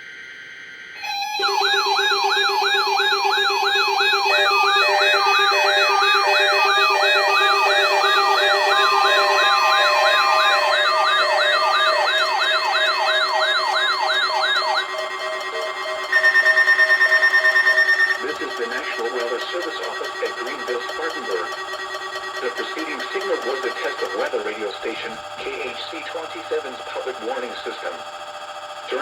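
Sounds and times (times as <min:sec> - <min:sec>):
intermittent beeping: 0:00.8 - 0:29.0
siren-like rising sweep: 0:01.0 - 0:25.0
steady lower tone: 0:01.0 - 0:25.7.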